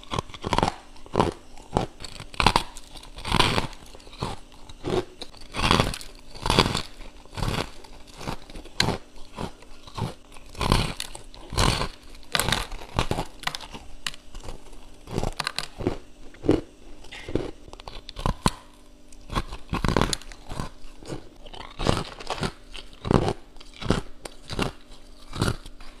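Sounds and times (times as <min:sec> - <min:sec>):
teeth crunching frost: 0:00.0 - 0:26.0.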